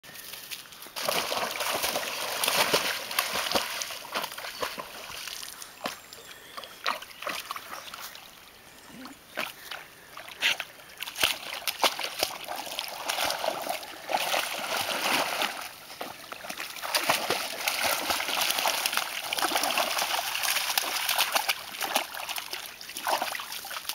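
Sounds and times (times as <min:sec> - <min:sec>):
dog splashing into water: 0:01.0 - 0:06.0, 0:09.4 - 0:23.9.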